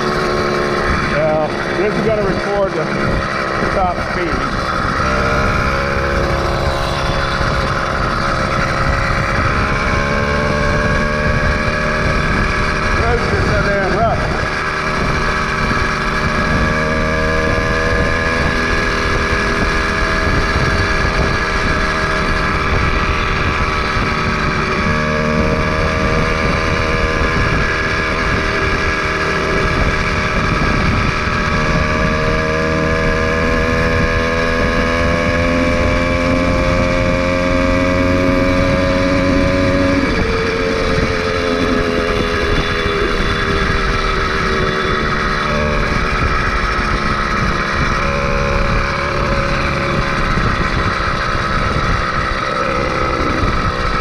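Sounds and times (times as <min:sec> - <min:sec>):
two-stroke engine running under load: 0:00.0 - 0:54.0.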